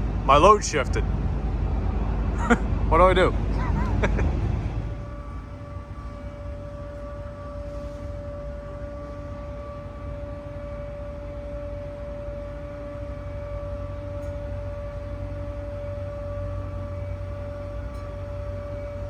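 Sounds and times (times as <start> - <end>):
machinery whine and rumble: 0.0 - 19.0.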